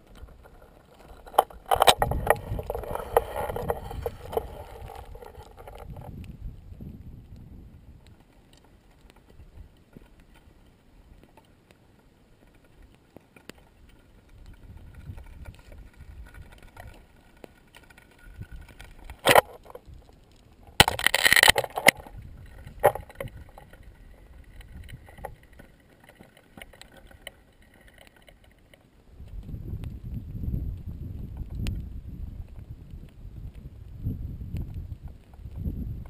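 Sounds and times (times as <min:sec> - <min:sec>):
lava crust crackling: 0:00.0 - 0:36.0.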